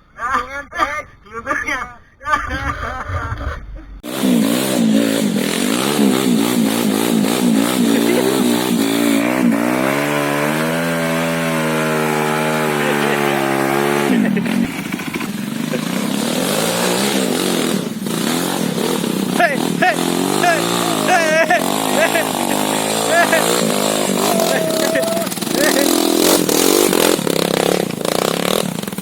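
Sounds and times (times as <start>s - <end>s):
motorcycle engine revving: 4.0s - 29.0s.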